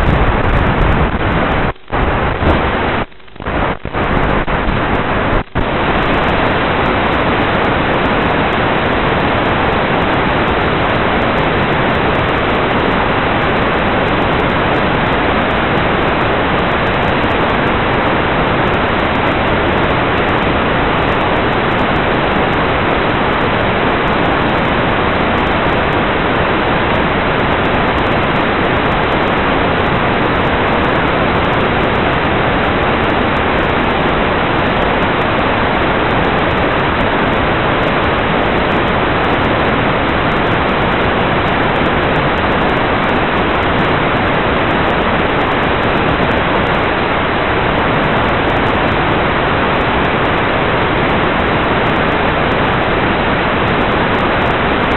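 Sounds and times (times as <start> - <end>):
static hiss: 0.0 - 54.9.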